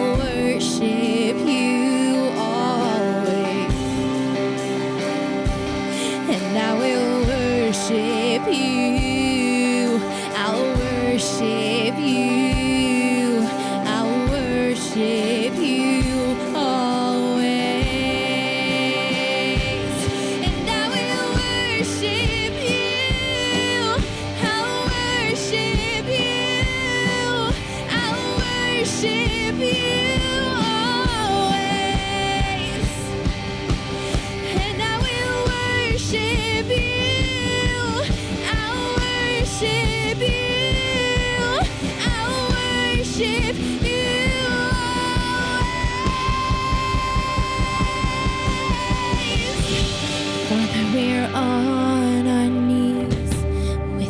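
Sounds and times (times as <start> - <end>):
person singing: 0.0 - 5.1, 5.7 - 54.0
drums with steady beat: 0.0 - 52.4, 53.0 - 53.8
guitar: 0.0 - 54.0.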